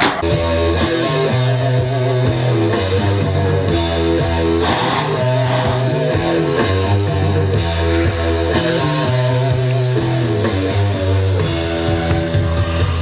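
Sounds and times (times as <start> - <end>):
held bass notes: 0.0 - 13.0
rock music with electric guitar: 0.0 - 13.0.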